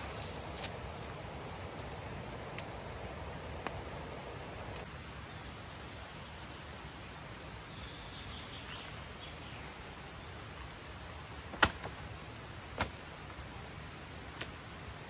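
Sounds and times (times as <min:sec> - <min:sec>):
forest background: 0:00.0 - 0:15.0.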